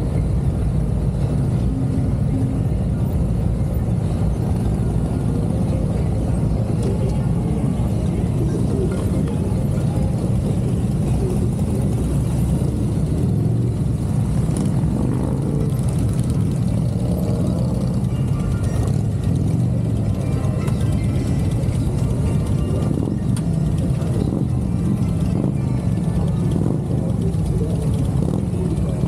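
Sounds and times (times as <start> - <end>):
motorcycle engines idling: 0.0 - 29.0.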